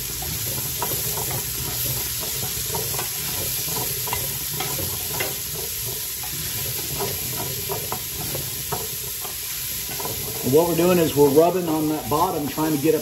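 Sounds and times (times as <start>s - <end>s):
vegetables sizzling in a pot: 0.0s - 13.0s
wooden spoon scraping a pot: 0.0s - 13.0s.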